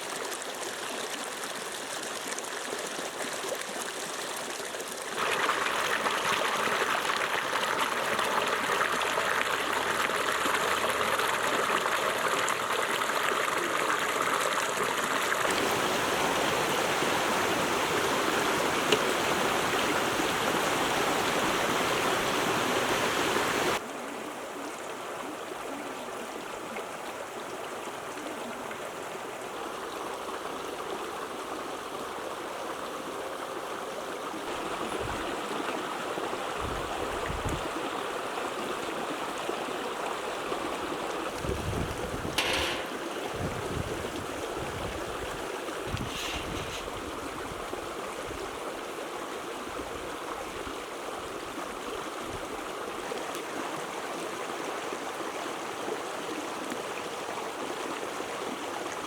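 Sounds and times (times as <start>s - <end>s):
water rushing: 0.0s - 24.4s, 26.3s - 59.0s.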